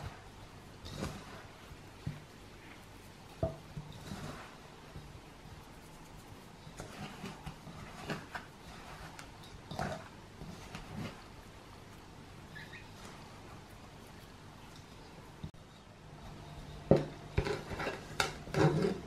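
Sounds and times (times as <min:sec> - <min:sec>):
hands rubbing butter into flour: 0:00.0 - 0:19.0.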